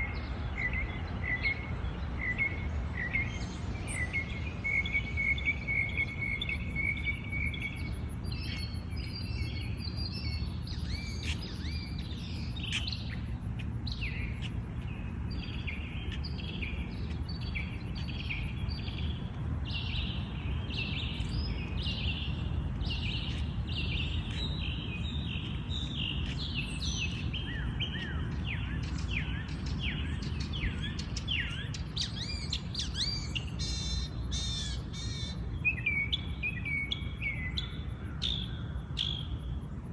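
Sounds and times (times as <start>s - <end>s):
bird trill: 0.0s - 39.5s
songbird chirping: 0.0s - 39.6s
low steady rumble: 0.0s - 39.9s.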